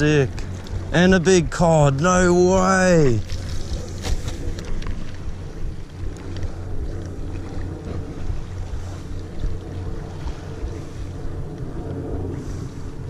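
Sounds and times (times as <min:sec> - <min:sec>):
wind buffeting microphone: 0:00.0 - 0:13.0
sea swell against rocks: 0:02.2 - 0:13.0.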